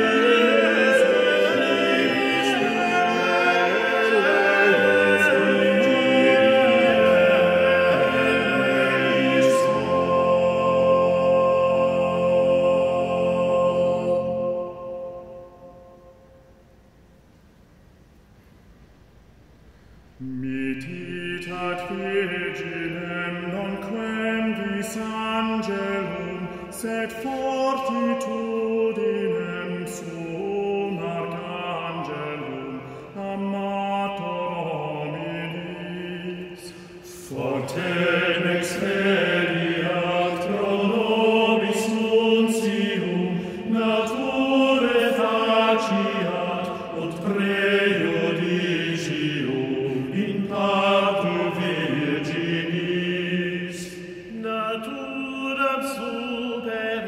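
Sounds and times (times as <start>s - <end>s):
men singing a cappella hymn: 0.0s - 15.0s, 20.2s - 57.0s.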